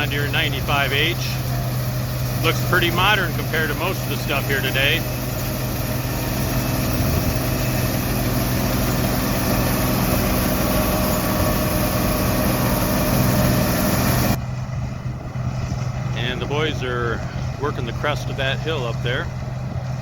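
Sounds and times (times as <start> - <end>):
combine engine hum: 0.0 - 20.0.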